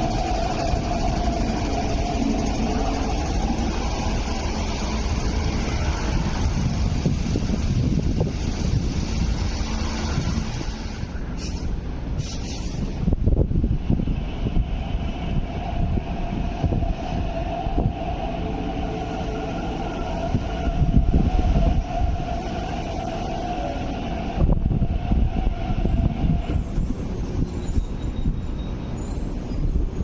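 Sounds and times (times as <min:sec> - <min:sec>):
steady train whine: 0:00.0 - 0:30.0
train rumble slowing to a stop: 0:00.0 - 0:30.0.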